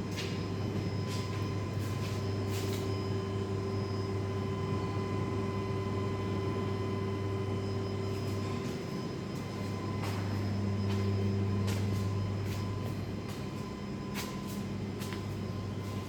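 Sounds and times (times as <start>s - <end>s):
deep electrical hum: 0.0s - 16.0s
machinery whining tones: 0.0s - 16.0s.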